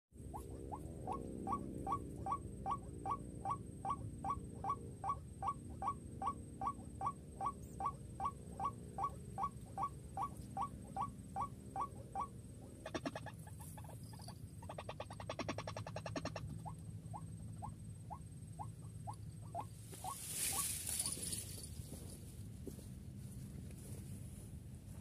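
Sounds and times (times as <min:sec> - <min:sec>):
fast rattling bird call: 0:00.3 - 0:21.8.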